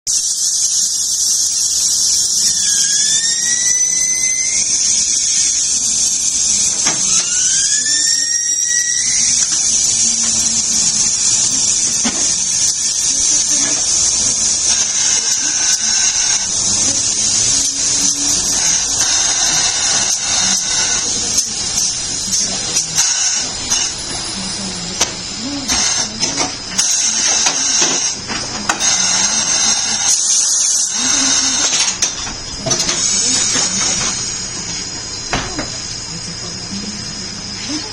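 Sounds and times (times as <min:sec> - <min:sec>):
air tool whining: 0:00.1 - 0:37.9
compressed air hissing: 0:00.1 - 0:37.9.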